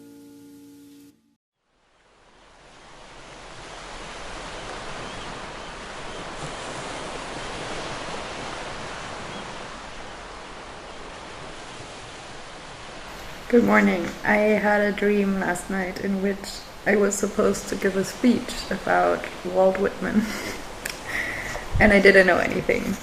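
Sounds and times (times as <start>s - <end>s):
sea surf washing onto beach: 2.0s - 23.0s.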